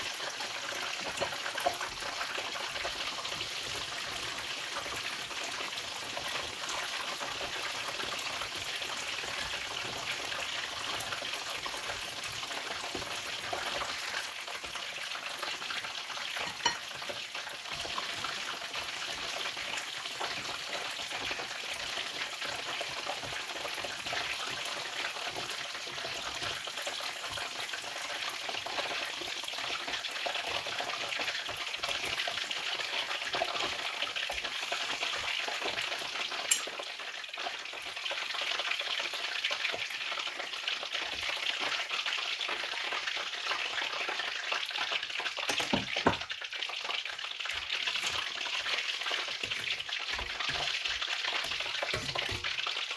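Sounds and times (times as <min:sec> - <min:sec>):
food deep-frying in oil: 0:00.0 - 0:52.9.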